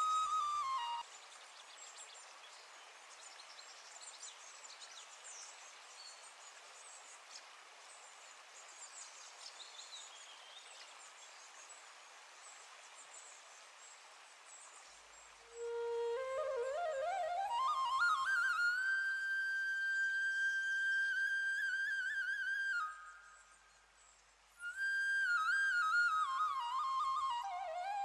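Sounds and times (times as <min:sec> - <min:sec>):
soft steady hiss: 0:00.0 - 0:28.0.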